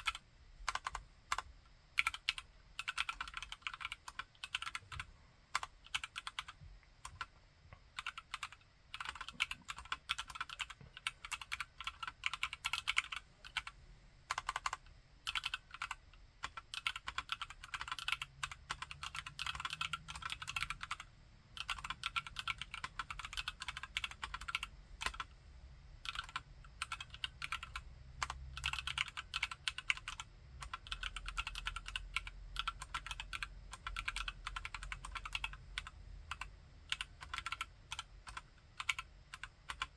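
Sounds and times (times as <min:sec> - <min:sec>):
mechanical keyboard typing: 0:00.0 - 0:07.3, 0:07.9 - 0:25.3, 0:26.0 - 0:39.9.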